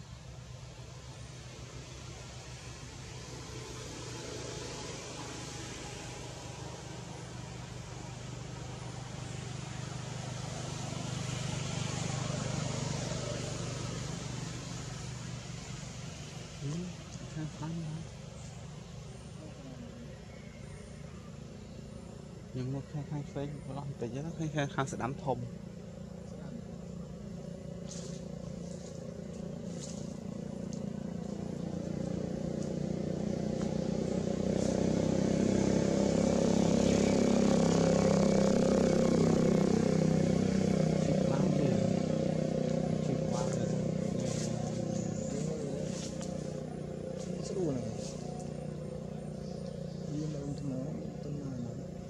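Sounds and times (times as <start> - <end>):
low motor hum: 0.0 - 52.0.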